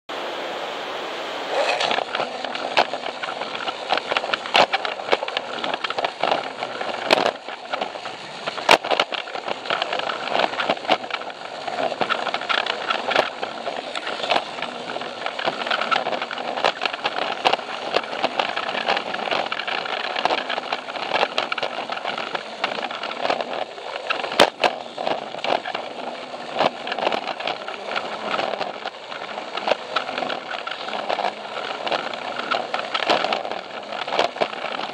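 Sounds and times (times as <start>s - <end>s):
toy train motor running: 1.5s - 34.9s
wheels clicking over track joints: 1.5s - 34.9s.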